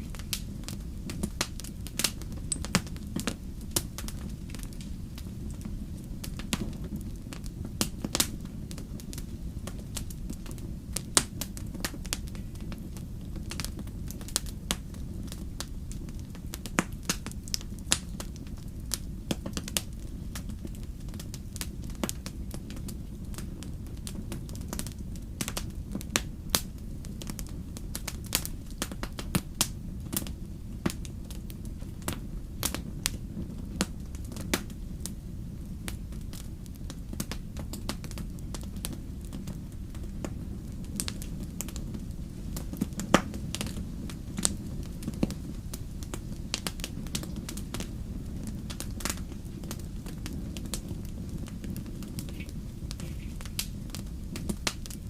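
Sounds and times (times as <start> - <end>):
campfire crackling: 0.0 - 55.0
fire pops and snaps: 0.0 - 55.0
steady low rumble: 0.0 - 55.0.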